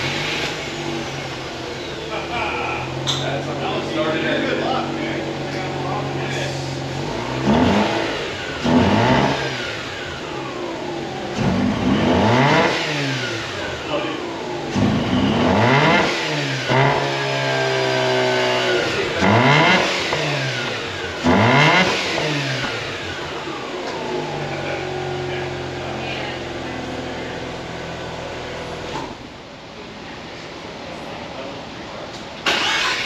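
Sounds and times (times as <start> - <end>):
rotary engine revving: 0.0 - 29.2, 32.4 - 33.0
engine idling: 0.0 - 33.0.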